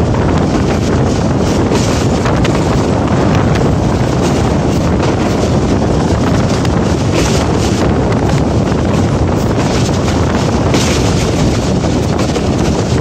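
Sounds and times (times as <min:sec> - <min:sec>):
train rumbling on track: 0:00.0 - 0:13.0
wind buffeting microphone: 0:00.0 - 0:13.0.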